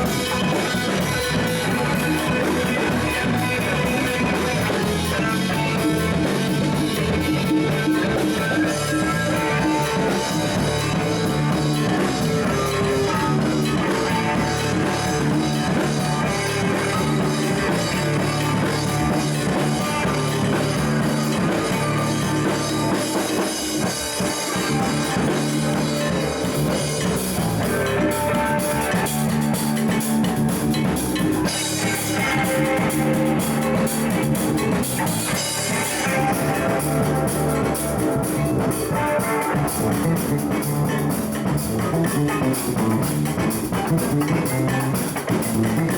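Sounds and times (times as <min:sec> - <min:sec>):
drum kit playing: 0:00.0 - 0:45.9
electric guitar playing: 0:00.0 - 0:45.9.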